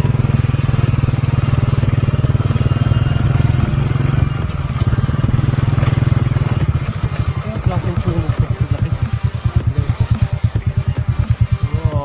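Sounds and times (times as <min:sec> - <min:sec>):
vehicle engine running: 0:00.0 - 0:12.0
vehicle on rocky road: 0:00.0 - 0:12.0.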